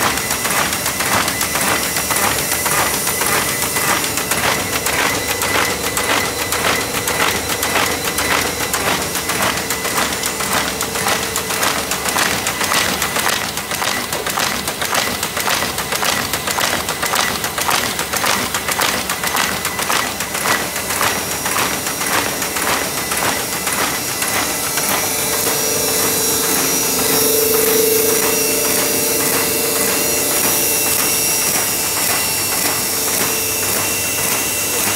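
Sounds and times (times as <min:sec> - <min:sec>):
machine hum with high whine: 0:00.0 - 0:34.9
paper machinery clattering: 0:00.0 - 0:34.9.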